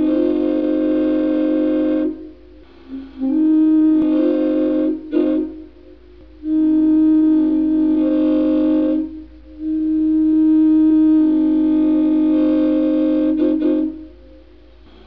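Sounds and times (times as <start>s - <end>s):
train air horn blasts: 0.0s - 15.0s.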